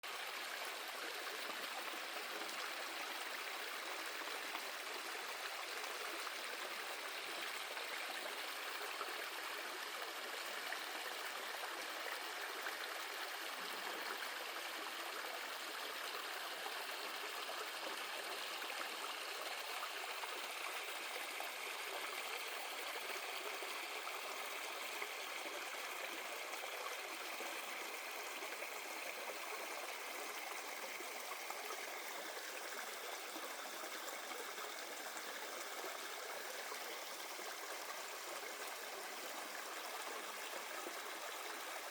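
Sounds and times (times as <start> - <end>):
stream water babbling: 0.0 - 41.9.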